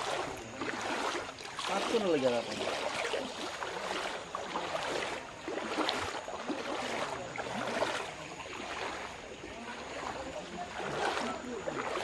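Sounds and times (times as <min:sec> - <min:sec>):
water splashing around a boat: 0:00.0 - 0:12.0.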